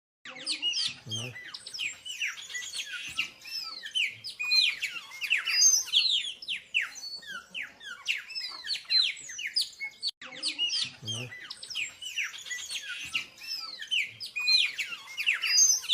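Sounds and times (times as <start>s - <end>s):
small birds chirping: 0.2s - 15.9s.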